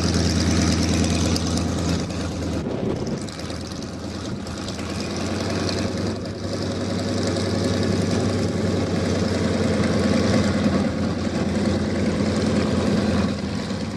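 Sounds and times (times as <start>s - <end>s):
plane engine running at low power: 0.0s - 13.9s.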